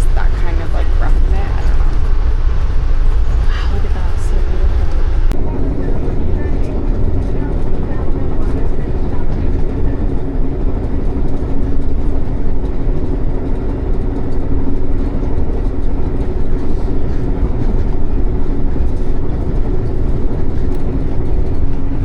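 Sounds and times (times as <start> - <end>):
passenger train rumbling: 0.0 - 22.0.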